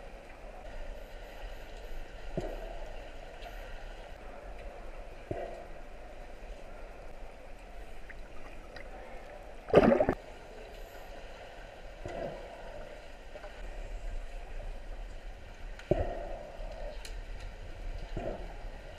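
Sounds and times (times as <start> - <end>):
water sloshing and gurgling underwater: 0.0 - 18.9.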